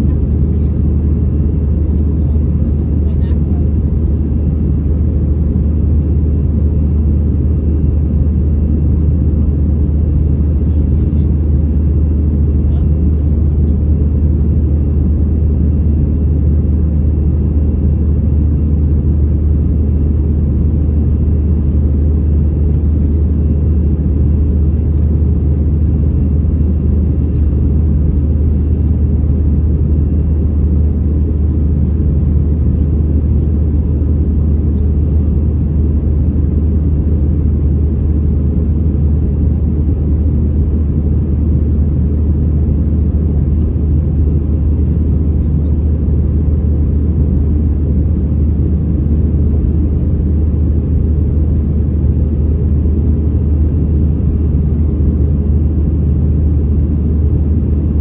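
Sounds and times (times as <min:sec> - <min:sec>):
jet engines and airflow in cabin: 0:00.0 - 0:58.0.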